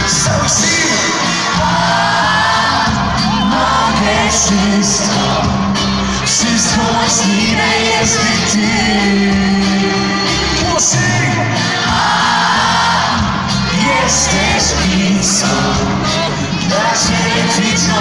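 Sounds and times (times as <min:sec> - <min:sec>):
crowd shouting along: 0:00.0 - 0:18.0
live pop band playing: 0:00.0 - 0:18.0.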